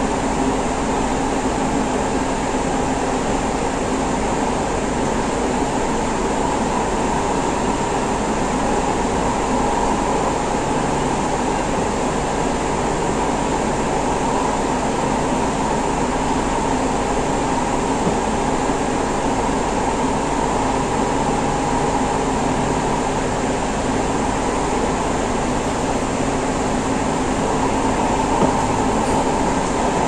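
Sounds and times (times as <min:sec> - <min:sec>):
air conditioning: 0:00.0 - 0:30.0
metro train wheels rumbling: 0:00.0 - 0:30.0.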